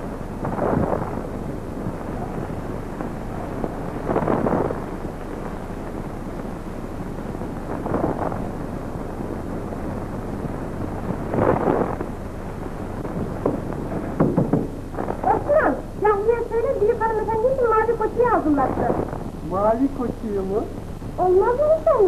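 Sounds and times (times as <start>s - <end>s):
film soundtrack hiss and hum: 0.0s - 22.0s.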